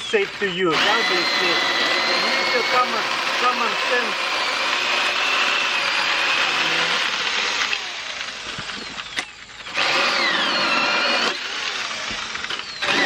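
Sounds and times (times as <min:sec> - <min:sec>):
electric chainsaw cutting wood: 0:00.0 - 0:13.0.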